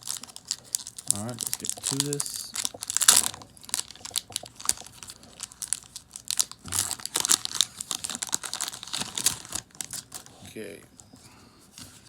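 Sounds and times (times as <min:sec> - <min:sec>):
foil pack crinkling and tearing: 0:00.0 - 0:10.7.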